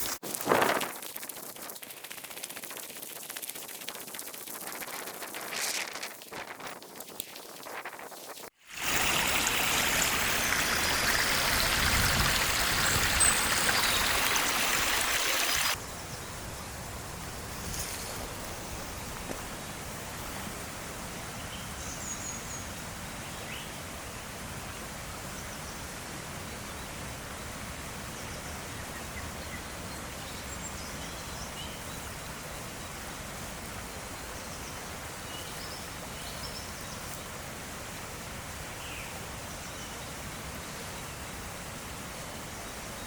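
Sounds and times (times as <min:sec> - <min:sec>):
outdoor ambient hiss: 0:04.6 - 0:43.0.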